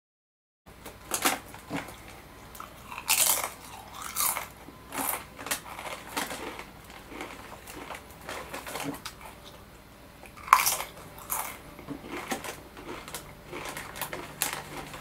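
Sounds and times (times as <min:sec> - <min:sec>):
person crunching chips: 0:01.1 - 0:09.6, 0:10.2 - 0:15.0.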